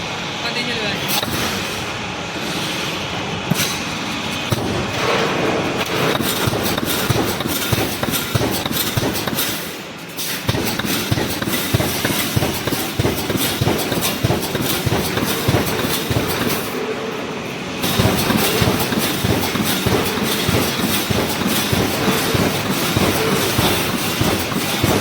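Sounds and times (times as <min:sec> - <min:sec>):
welding machine clattering: 0:01.1 - 0:25.0.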